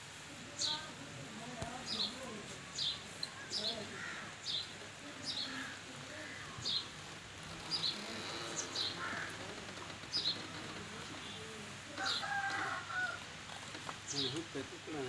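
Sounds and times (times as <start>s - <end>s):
faint background murmur: 0.0s - 15.0s.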